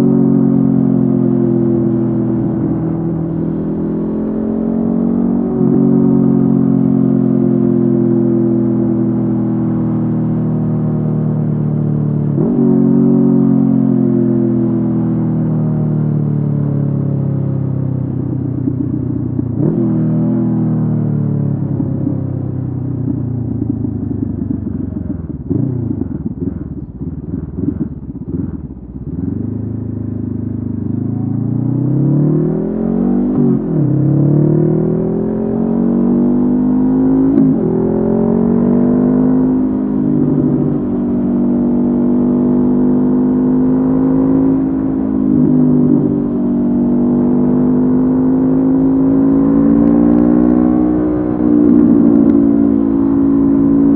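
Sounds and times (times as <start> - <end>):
motorcycle engine while riding: 0.0 - 53.9.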